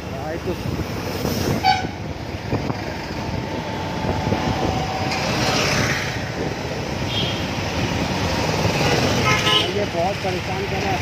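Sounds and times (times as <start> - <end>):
wind rumbling on microphone: 0.0 - 9.2
scooter engine and road noise: 0.0 - 11.0.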